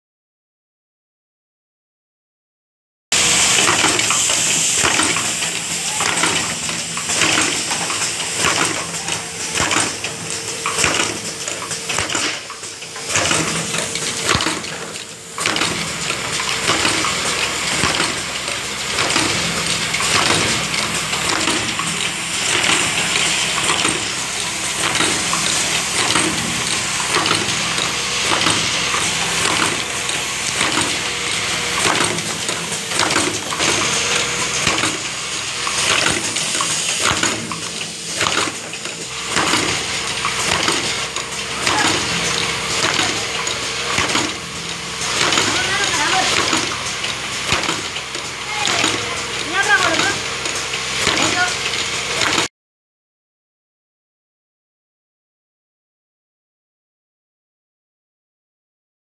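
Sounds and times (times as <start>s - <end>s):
machine clicking and clattering: 3.2s - 52.5s.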